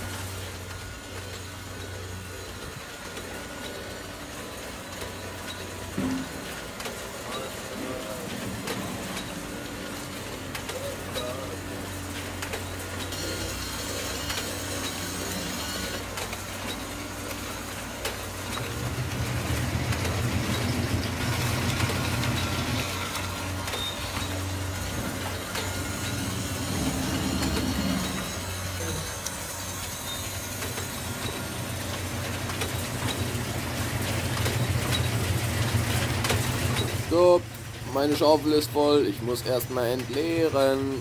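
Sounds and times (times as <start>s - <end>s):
small electric motors humming: 0.0s - 41.0s.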